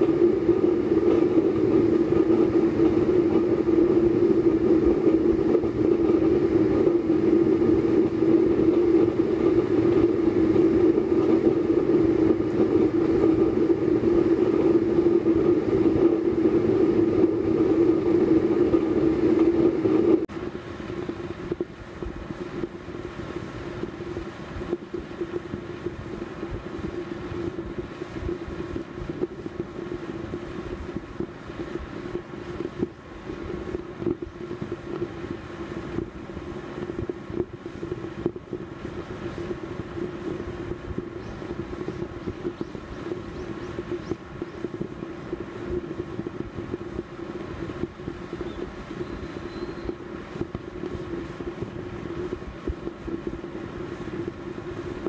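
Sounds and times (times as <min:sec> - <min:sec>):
oil stove burning with roar: 0:00.0 - 0:55.0.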